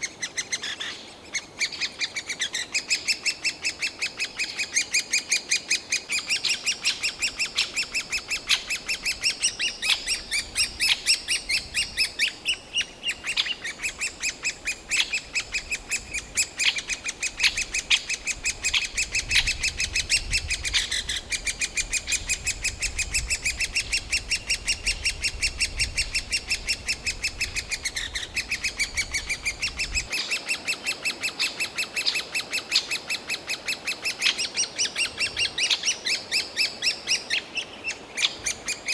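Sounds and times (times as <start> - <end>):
woodpecker nestlings begging calls: 0.1 - 38.9.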